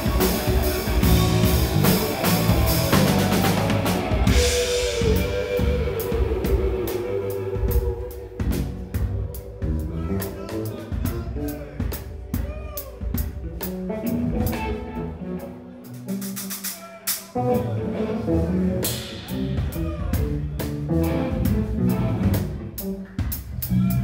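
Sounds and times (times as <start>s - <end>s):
live rock band: 0.0s - 24.0s.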